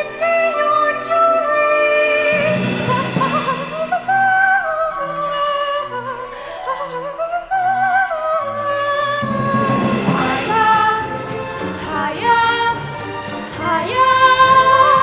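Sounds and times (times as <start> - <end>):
sustained instrumental accompaniment: 0.0 - 15.0
woman singing operatic vocalise: 0.0 - 15.0.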